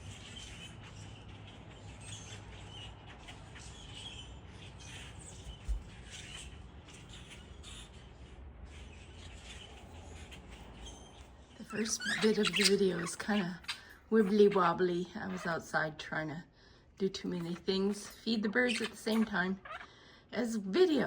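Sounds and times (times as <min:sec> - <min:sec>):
birds squawking and chirping: 0:00.0 - 0:15.8, 0:17.2 - 0:20.2.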